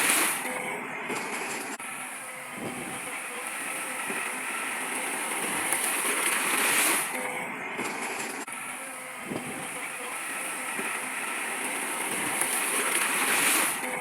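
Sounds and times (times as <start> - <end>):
heavy machinery running with hiss: 0.0 - 14.0.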